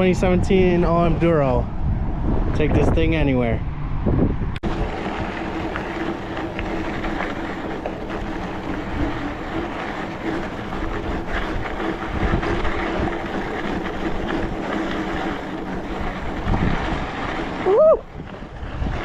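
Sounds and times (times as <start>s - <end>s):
bike tyre rumble: 0.0s - 19.0s
wind rushing on microphone: 0.0s - 19.0s.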